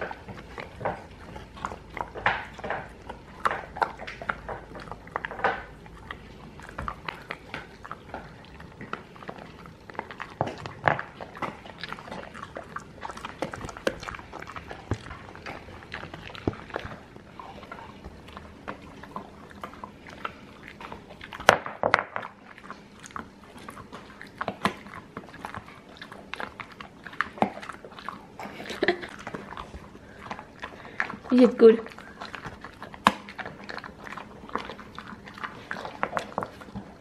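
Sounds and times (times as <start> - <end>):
dog crunching and gnawing treat: 0.0 - 37.0.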